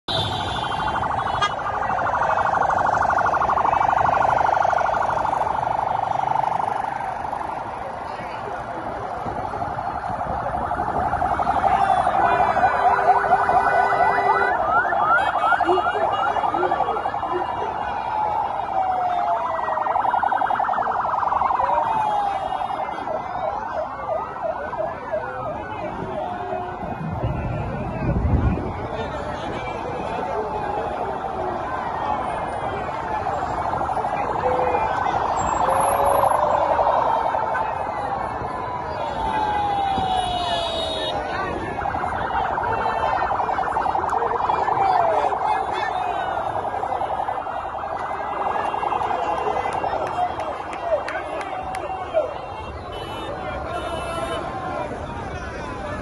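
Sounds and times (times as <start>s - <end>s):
siren pulsing warble: 0.1s - 28.7s, 30.8s - 50.2s.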